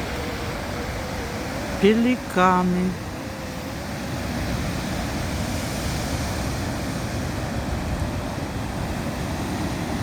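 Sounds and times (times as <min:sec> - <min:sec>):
ocean surf: 0:00.0 - 0:10.0
wind buffeting microphone: 0:00.0 - 0:10.0.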